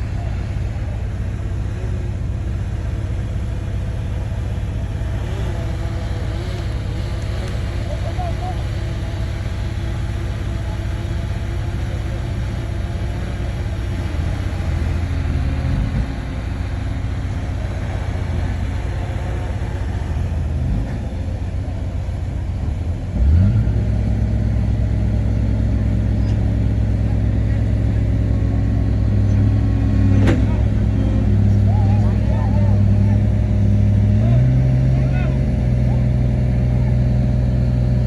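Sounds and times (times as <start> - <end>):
bulldozer diesel engine revving: 0.0 - 38.0.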